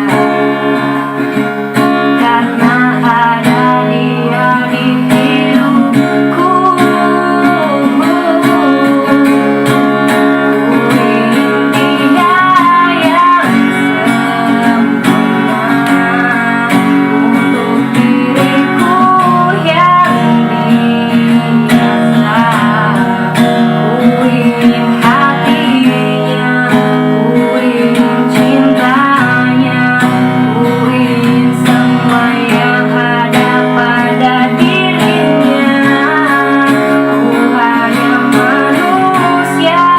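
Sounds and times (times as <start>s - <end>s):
person singing with vibrato: 0.0s - 39.9s
strummed acoustic guitar: 0.0s - 39.9s.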